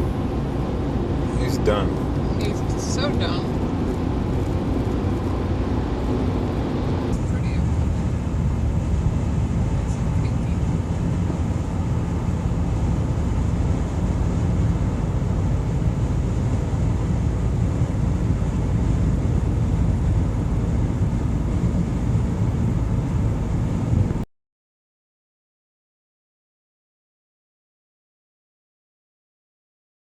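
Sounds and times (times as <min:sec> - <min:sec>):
car cabin road and engine rumble: 0:00.0 - 0:24.3.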